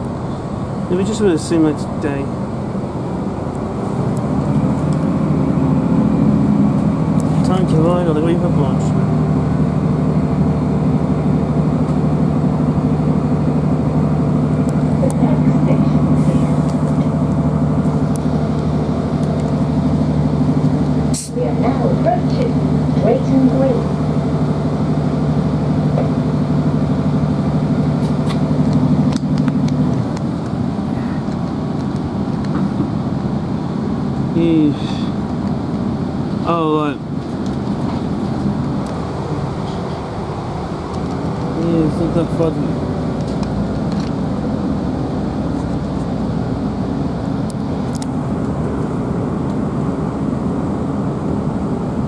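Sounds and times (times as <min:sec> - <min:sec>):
diesel engine droning: 0:00.0 - 0:52.0
train rumbling on rails: 0:00.0 - 0:52.0.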